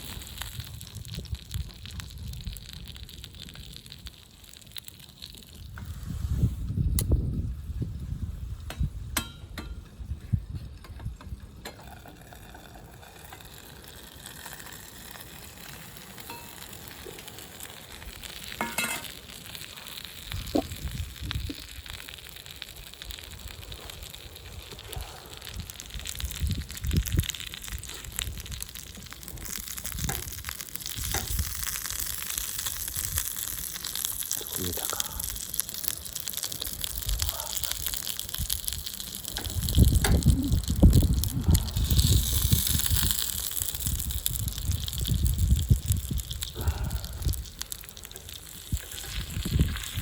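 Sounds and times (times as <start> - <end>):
food sizzling in frying: 0.0 - 9.6, 11.5 - 50.0.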